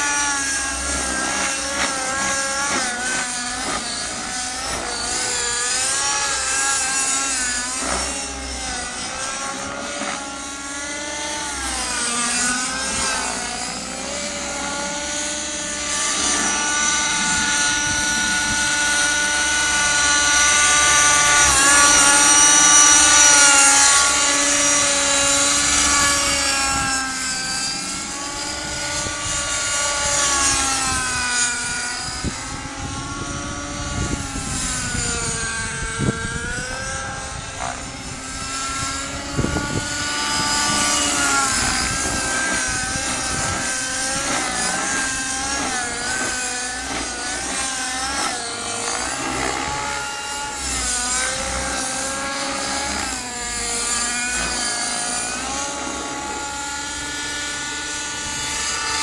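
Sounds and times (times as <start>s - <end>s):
rc helicopter engine: 0.0s - 59.0s.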